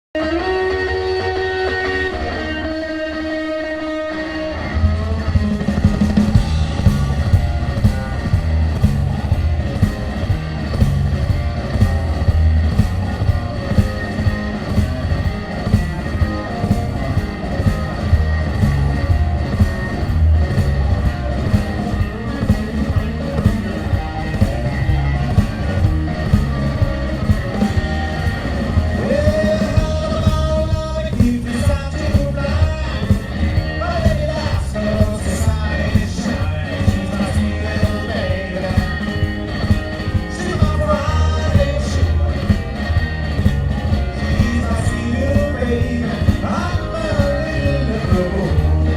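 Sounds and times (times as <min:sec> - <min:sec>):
electric guitar: 0:00.0 - 0:48.9
blues band playing: 0:00.2 - 0:48.9.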